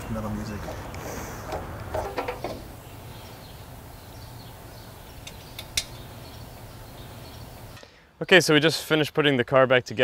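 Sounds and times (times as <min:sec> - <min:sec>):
low outdoor hum: 0:00.0 - 0:10.0.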